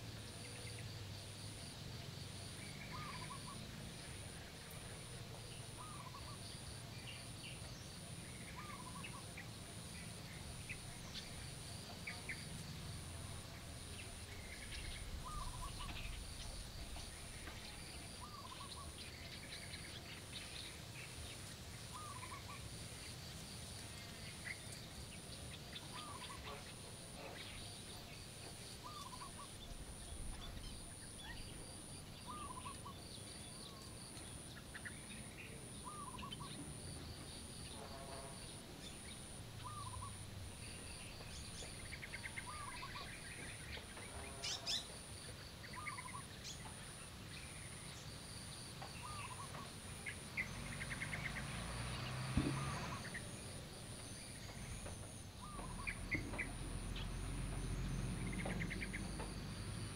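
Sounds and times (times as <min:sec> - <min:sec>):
birds chirping and trilling: 0:02.6 - 0:04.5, 0:05.4 - 0:23.1, 0:24.1 - 0:59.9.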